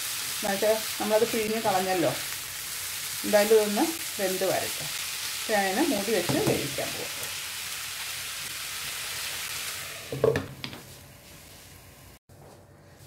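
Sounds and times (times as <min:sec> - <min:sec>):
food sizzling in hot oil: 0:00.0 - 0:12.2.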